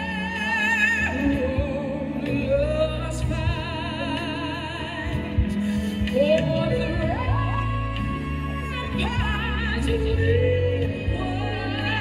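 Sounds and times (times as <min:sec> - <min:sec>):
operatic soprano singing: 0:00.0 - 0:12.0.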